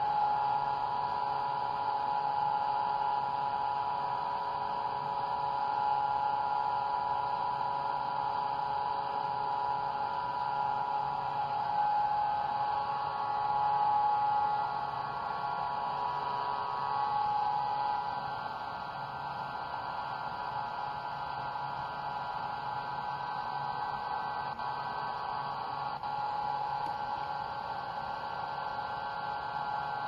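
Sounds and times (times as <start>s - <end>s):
machine humming: 0.0s - 30.0s.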